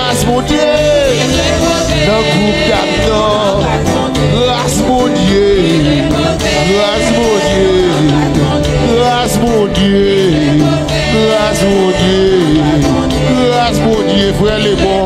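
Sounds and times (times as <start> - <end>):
person singing gospel song: 0.0 - 15.0
steady beat and bass: 0.0 - 15.0.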